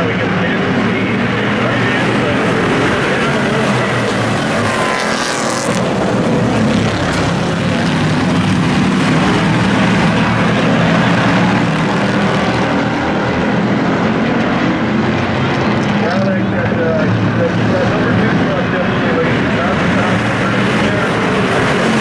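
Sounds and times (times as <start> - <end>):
race truck engines: 0.0 - 22.0.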